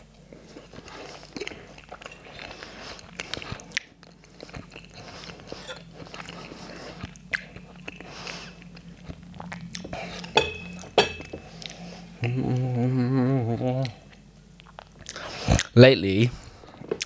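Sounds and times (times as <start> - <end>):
chewing and biting soft food: 0.0 - 12.7, 13.8 - 15.7.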